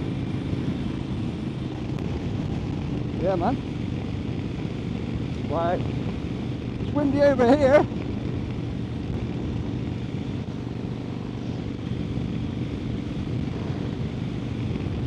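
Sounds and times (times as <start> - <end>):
motorcycle engine cruising: 0.0 - 15.0
wind on microphone: 0.0 - 15.0.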